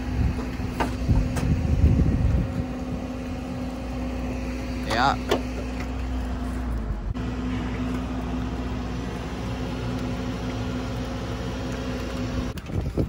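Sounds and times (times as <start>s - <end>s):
excavator engine humming: 0.0s - 12.7s.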